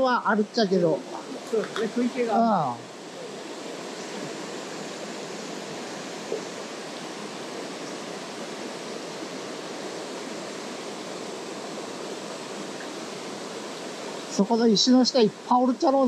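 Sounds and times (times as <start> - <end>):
stream rushing over rocks: 0.1 - 16.0.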